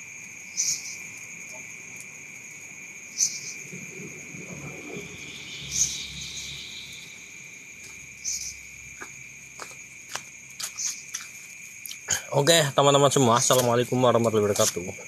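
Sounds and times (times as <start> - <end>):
cricket drone: 0.0 - 15.0
loud high insect chirp: 0.0 - 15.0.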